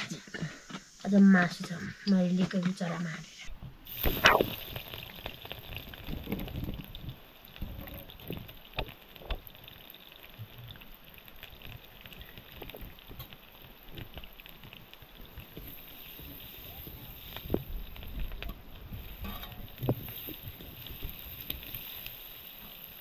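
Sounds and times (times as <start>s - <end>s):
food crackling and sizzling: 0.0s - 23.0s.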